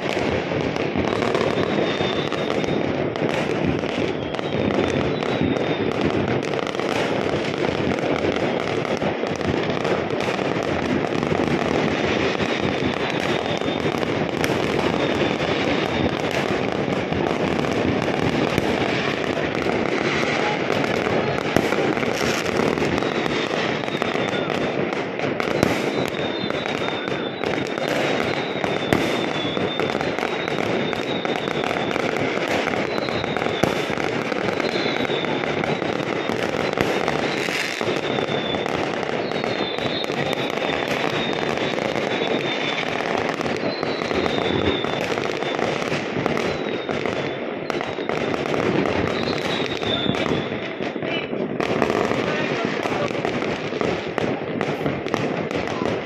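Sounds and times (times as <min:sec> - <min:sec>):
fireworks banging and crackling: 0:00.0 - 0:56.0
sharp loud firework reports: 0:00.0 - 0:56.0.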